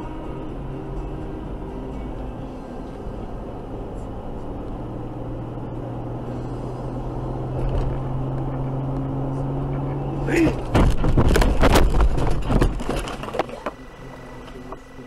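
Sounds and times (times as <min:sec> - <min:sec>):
car engine and tyre drone: 0:00.0 - 0:15.0
low hum: 0:00.0 - 0:15.0.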